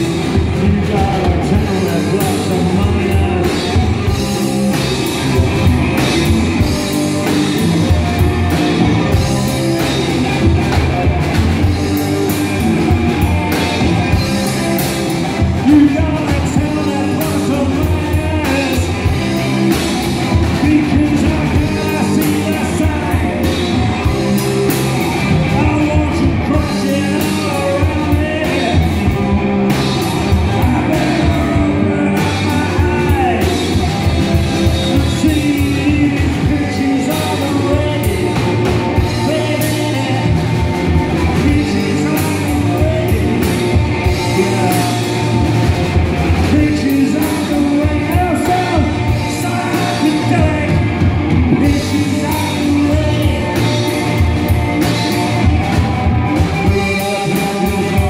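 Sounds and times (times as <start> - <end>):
bass guitar: 0.0 - 58.0
drum kit: 0.0 - 58.0
electric guitar: 0.0 - 58.0
man singing: 0.0 - 58.0.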